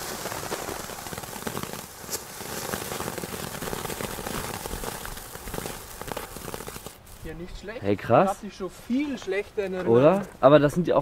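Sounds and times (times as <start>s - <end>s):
ground firework hissing and crackling: 0.0s - 10.2s.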